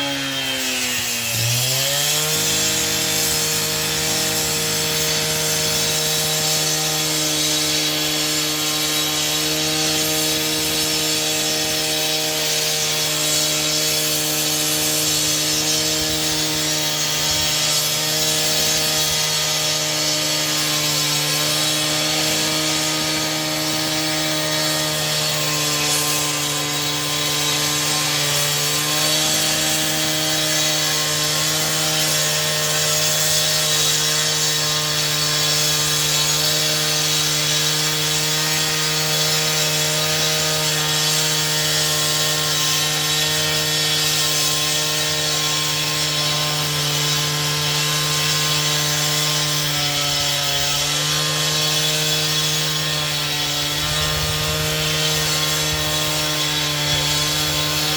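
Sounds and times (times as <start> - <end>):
power saw cutting: 0.0 - 57.9.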